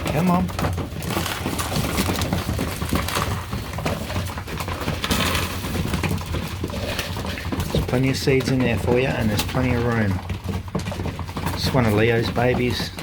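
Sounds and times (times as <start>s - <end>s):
pigeons pecking seed: 0.0s - 13.0s.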